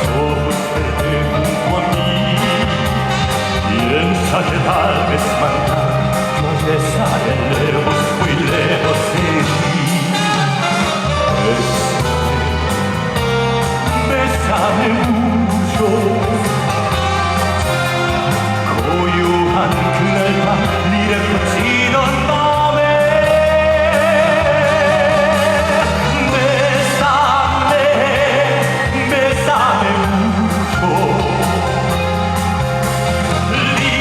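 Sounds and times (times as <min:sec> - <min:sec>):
backing band with bass and brass: 0:00.0 - 0:34.0
man singing with vibrato: 0:00.0 - 0:34.0.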